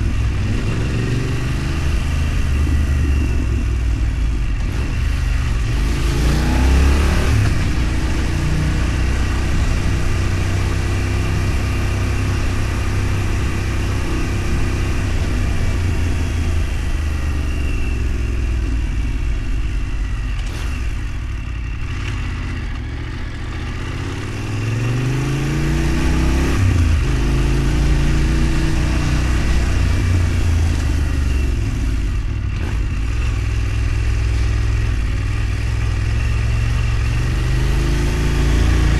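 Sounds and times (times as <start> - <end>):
vehicle engine accelerating: 0.0 - 38.9.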